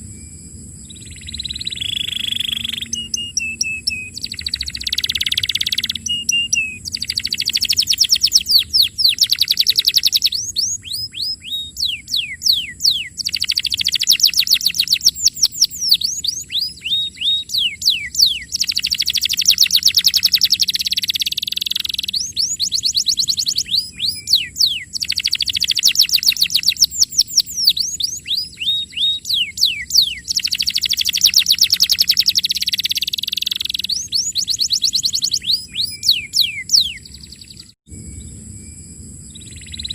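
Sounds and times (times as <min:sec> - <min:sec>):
canary singing: 0:00.9 - 0:37.8.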